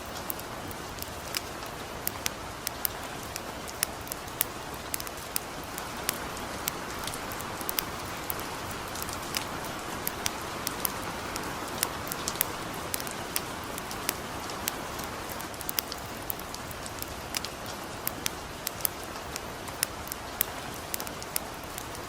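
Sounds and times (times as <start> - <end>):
campfire crackling and popping: 0.0 - 22.0
gentle rain hissing: 0.0 - 22.0.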